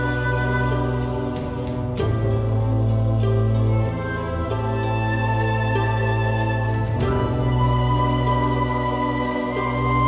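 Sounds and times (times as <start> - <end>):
soft slow background music: 0.0 - 10.0.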